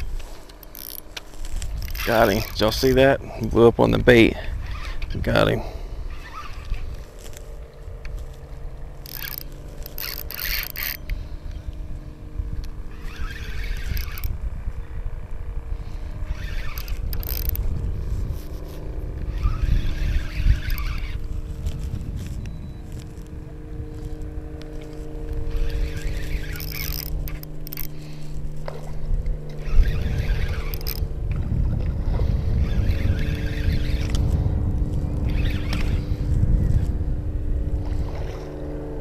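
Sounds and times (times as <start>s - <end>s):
steady low hum: 0.0s - 39.0s
wind buffeting microphone: 0.0s - 39.0s.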